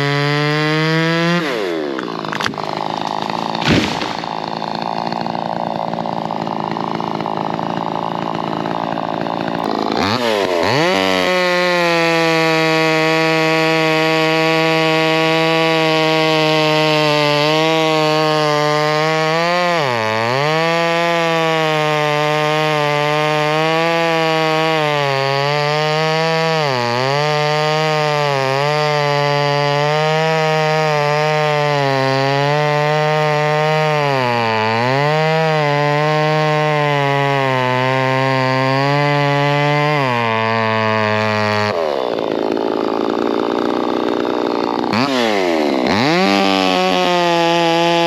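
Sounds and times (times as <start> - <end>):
chainsaw running at high speed: 0.0 - 48.0.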